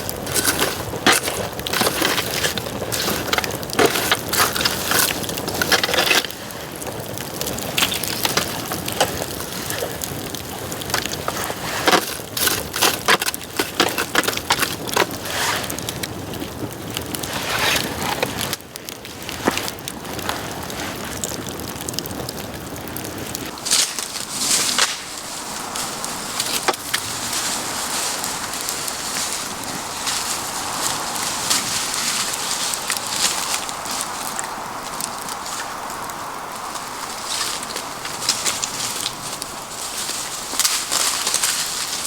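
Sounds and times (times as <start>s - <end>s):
bamboo snapping and popping in fire: 0.0s - 42.0s
fire hissing: 0.0s - 42.0s.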